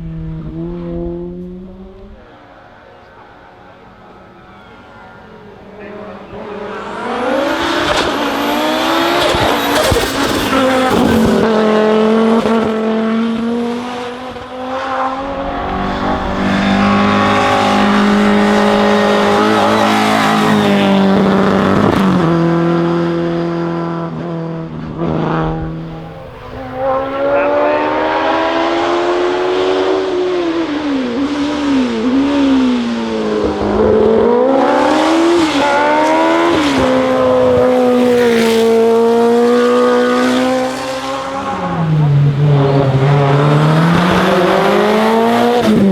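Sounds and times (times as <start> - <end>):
race car engines at full throttle: 0.0 - 45.9
car engine revs rising and falling: 6.0 - 45.9.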